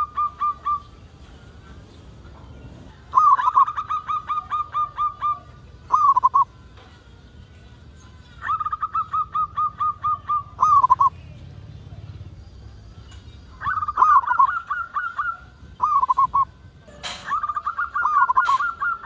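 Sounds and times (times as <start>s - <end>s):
dove cooing with rolling trill: 0.0s - 7.0s, 8.2s - 12.4s, 13.4s - 19.0s.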